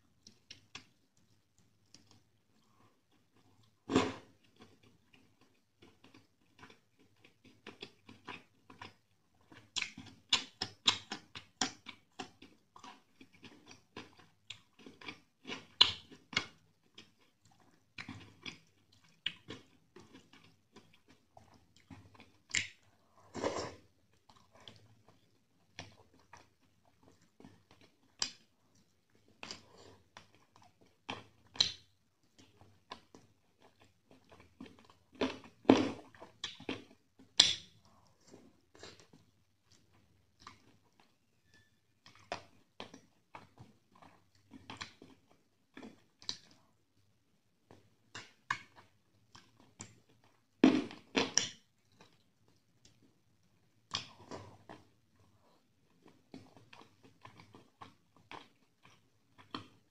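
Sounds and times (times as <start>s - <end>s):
chewing with wet mouth clicks: 0.1s - 23.1s, 24.0s - 46.8s, 47.6s - 59.9s.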